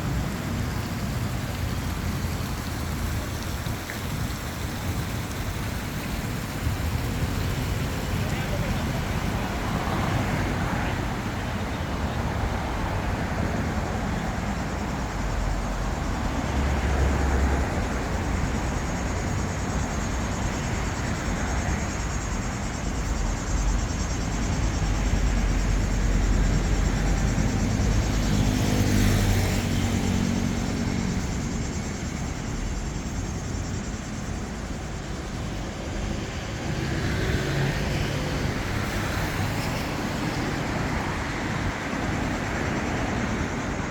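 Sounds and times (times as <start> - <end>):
vehicles driving past: 0.0 - 43.9.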